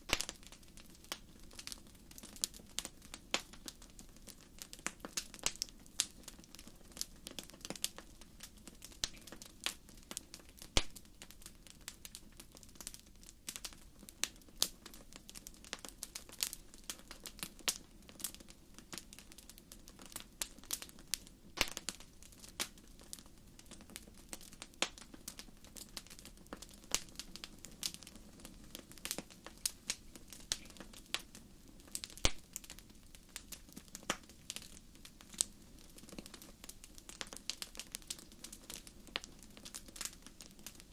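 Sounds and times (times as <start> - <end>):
faint low hiss: 0.0 - 40.9
fire crackling and popping: 0.0 - 40.9.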